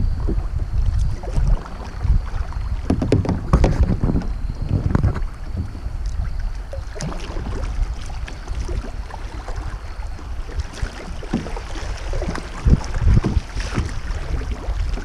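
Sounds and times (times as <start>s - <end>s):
water lapping against hull: 0.0s - 15.0s
wind rumble on microphone: 0.0s - 15.0s
paddle strokes splashing: 0.2s - 15.0s.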